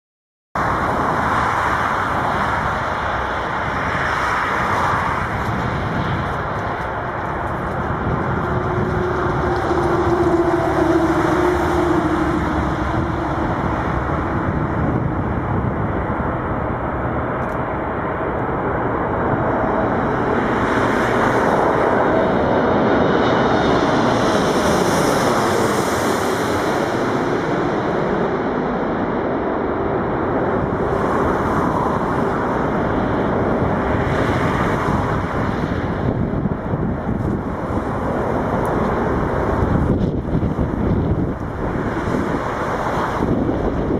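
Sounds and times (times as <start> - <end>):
jet plane landing: 0.6 - 43.9.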